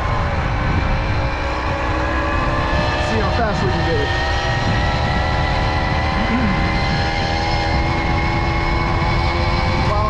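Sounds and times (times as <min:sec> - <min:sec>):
wind rumble on microphone: 0:00.0 - 0:10.0
moped engine running: 0:01.1 - 0:10.0.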